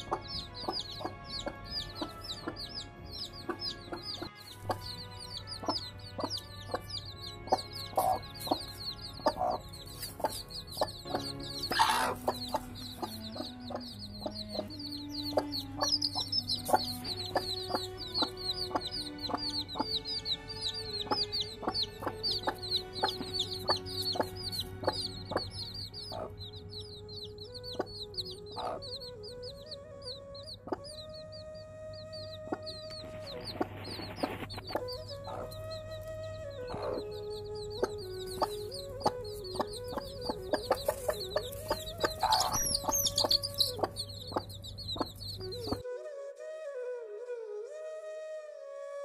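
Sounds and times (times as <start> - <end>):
hen clucking: 0.0 - 29.7, 30.4 - 31.2, 32.4 - 36.1, 36.7 - 45.8
chicks peeping: 0.0 - 45.8.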